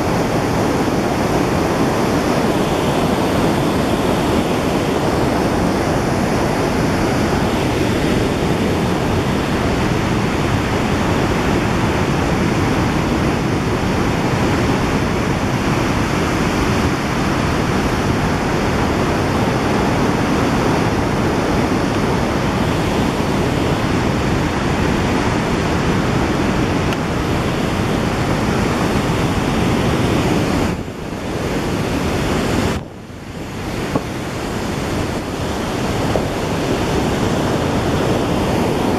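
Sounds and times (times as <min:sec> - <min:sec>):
whitewater rushing over rocks: 0:00.0 - 0:38.9.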